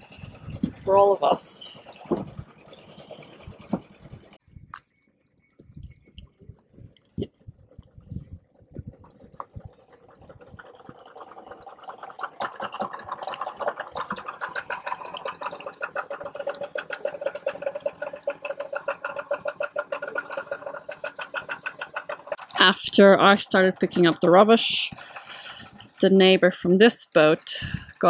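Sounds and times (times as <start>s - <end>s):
outboard motor running: 0.0s - 4.4s, 7.3s - 26.8s.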